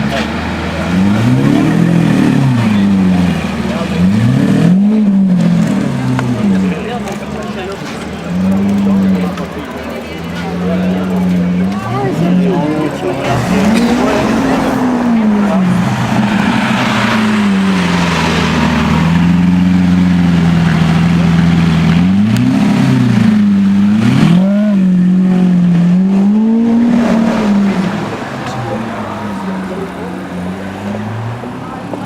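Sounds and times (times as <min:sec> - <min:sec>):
car engine revving by: 0:00.0 - 0:09.5, 0:10.4 - 0:32.0.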